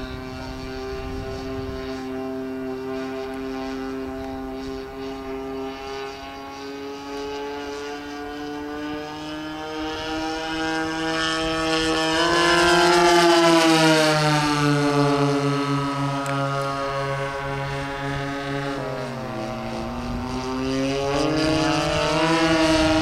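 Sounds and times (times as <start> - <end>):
model plane engines droning: 0.0 - 23.0
pulsing low throb: 0.0 - 23.0.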